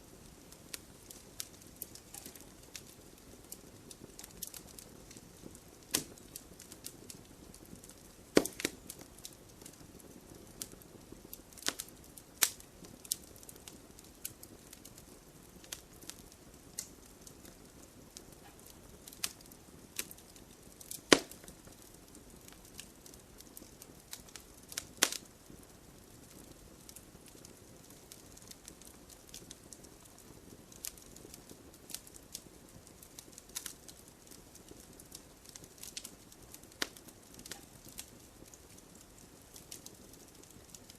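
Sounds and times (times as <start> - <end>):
fire popping and snapping: 0.0 - 40.9
low hiss of burning: 0.0 - 40.9
wood fire crackling: 0.0 - 40.9.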